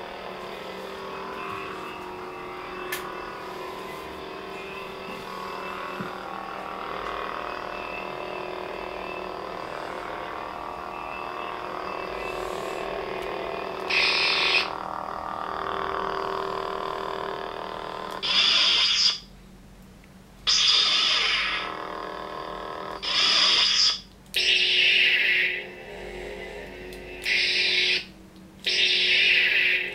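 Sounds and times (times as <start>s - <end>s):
toy lightsabers humming: 0.0s - 19.3s, 20.4s - 29.9s.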